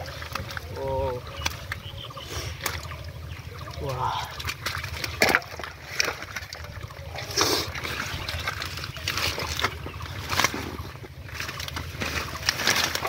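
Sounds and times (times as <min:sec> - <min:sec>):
fish splashing in bucket of water: 0:00.0 - 0:13.0.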